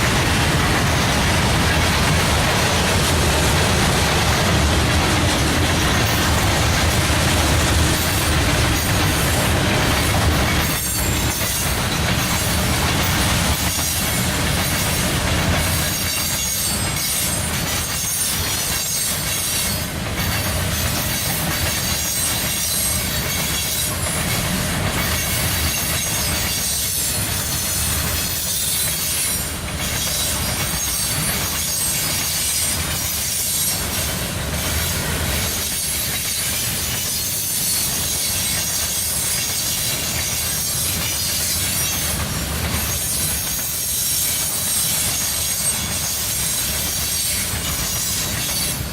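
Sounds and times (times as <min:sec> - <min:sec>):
train wheels clicking over rail joints: 0:00.0 - 0:48.9.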